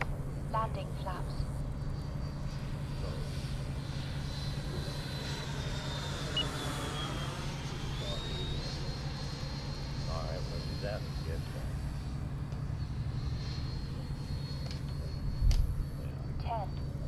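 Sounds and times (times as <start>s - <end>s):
electric ducted fan whine: 0.0s - 17.0s.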